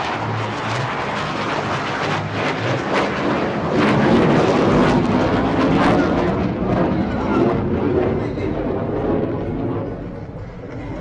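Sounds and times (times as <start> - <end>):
loud rushing jet noise: 0.0 - 11.0.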